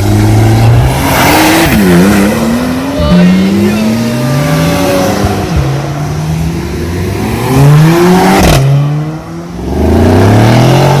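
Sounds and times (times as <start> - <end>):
sports car engine accelerating: 0.0 - 11.0.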